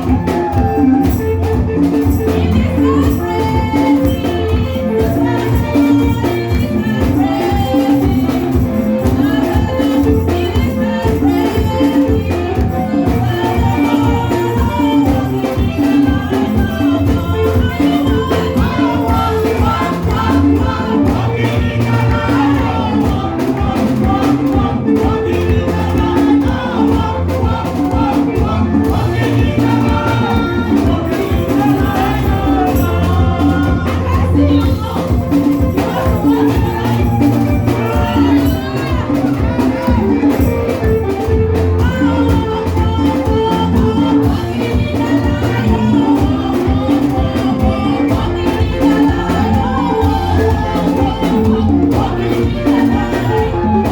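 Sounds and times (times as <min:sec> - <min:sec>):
upbeat praise music: 0:00.0 - 0:53.9.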